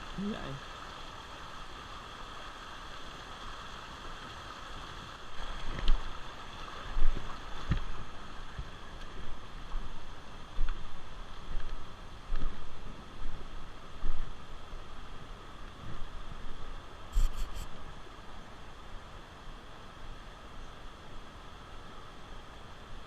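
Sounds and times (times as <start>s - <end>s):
flowing river water: 0.0s - 23.0s.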